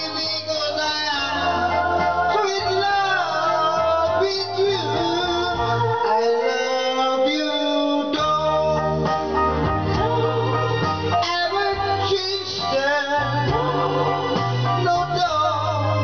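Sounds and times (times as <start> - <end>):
man singing into a microphone: 0.0 - 9.2, 11.2 - 16.0
recorded backing music: 0.0 - 16.0.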